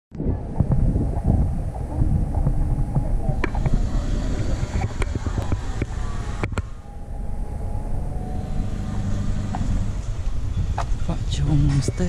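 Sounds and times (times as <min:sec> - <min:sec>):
vehicle engine rumbling: 0:00.1 - 0:12.0.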